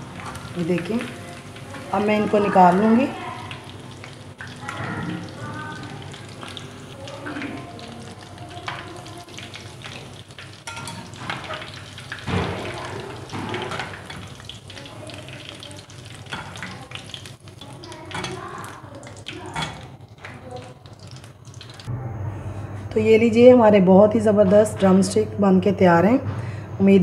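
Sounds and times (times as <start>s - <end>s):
chicken sizzling in hot oil: 0.0s - 21.9s.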